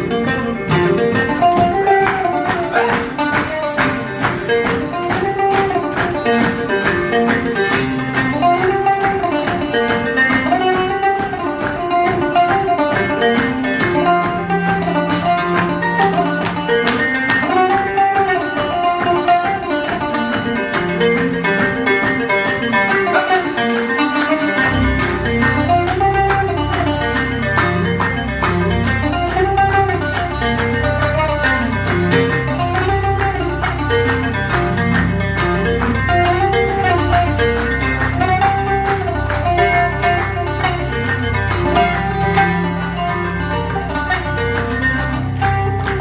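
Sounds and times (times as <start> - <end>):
picked acoustic guitar melody: 0.0 - 46.0.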